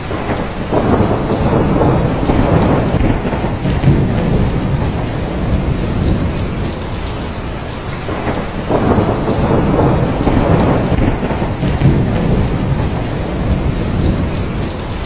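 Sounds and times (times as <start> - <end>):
heavy rain: 0.0 - 15.0
rolling thunder: 0.0 - 15.0.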